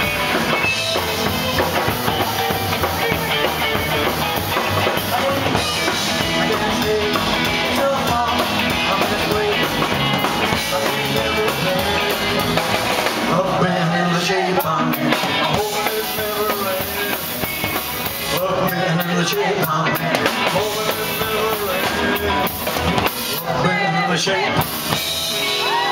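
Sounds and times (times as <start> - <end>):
drums: 0.0 - 25.9
electric guitar: 0.0 - 25.9
person singing: 0.6 - 22.7, 23.3 - 24.8.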